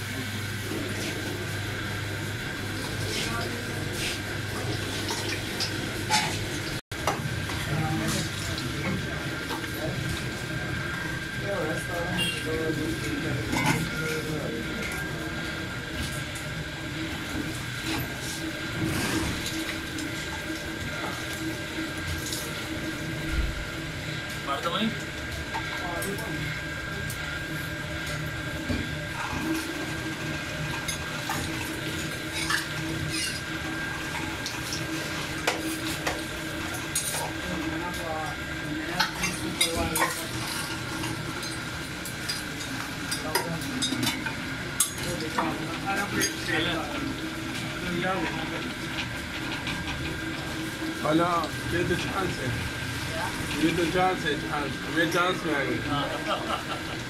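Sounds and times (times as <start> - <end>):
meat grinder humming: 0.0 - 57.0.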